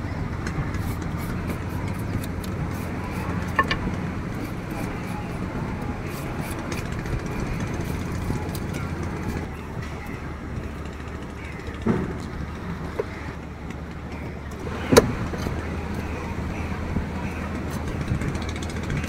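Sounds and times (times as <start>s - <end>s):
indistinct voices: 0.0s - 19.0s.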